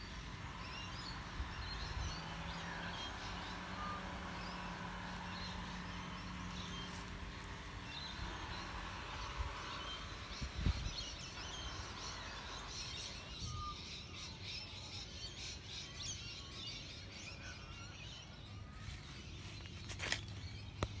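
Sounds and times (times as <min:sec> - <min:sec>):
birds chirping and twittering: 0:00.0 - 0:21.0.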